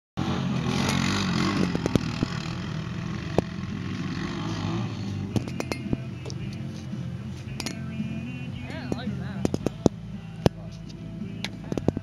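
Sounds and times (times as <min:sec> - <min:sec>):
quad bike engine revving: 0:00.2 - 0:10.6.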